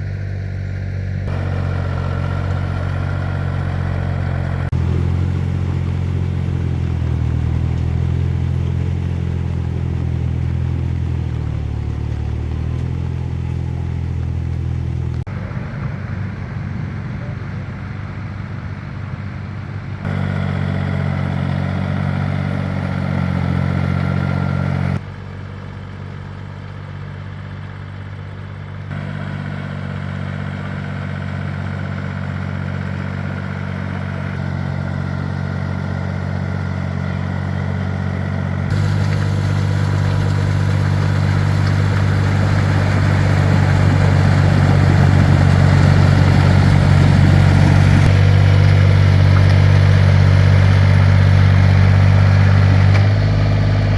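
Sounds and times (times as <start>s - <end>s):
walking tractor engine running: 0.0s - 53.9s.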